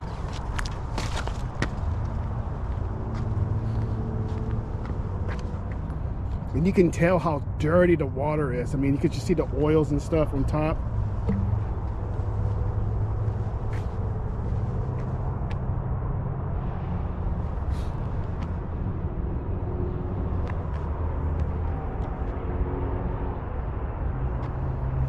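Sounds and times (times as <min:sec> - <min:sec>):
distant road traffic rumble: 0:00.0 - 0:25.0.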